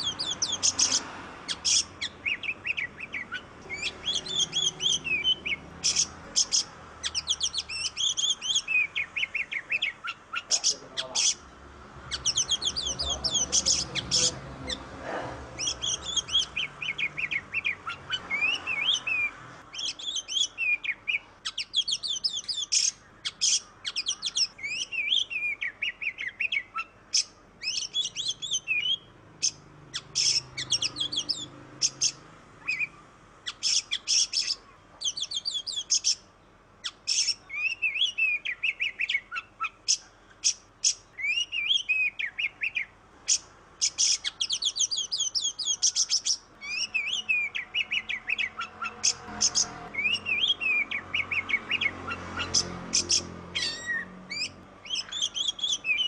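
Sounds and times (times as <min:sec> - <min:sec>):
songbird whistling and chattering: 0:00.0 - 0:11.5, 0:12.1 - 0:14.9, 0:15.6 - 0:56.0.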